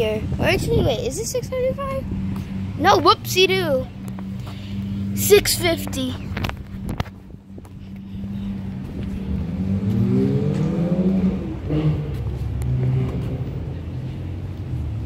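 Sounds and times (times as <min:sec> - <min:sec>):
car engine accelerating: 0:01.5 - 0:15.0.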